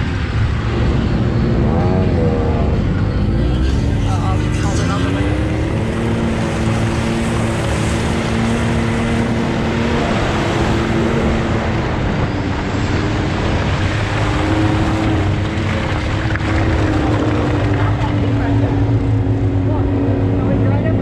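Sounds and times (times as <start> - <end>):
off-road vehicle engine running: 0.0 - 21.0
tyres working through mud: 0.0 - 21.0.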